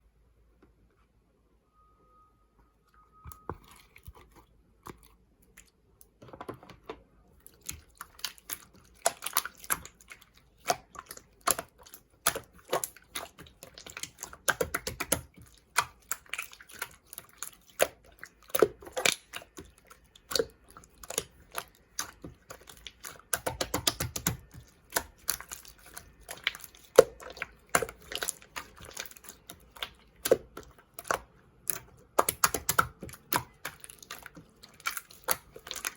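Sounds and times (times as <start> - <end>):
slime squishing: 3.3 - 6.2, 7.3 - 35.9.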